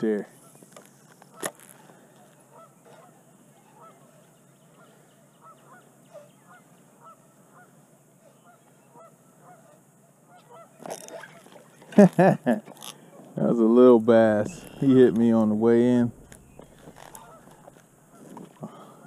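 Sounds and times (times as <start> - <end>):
faint bird calls: 0.0 - 11.9, 14.3 - 19.0.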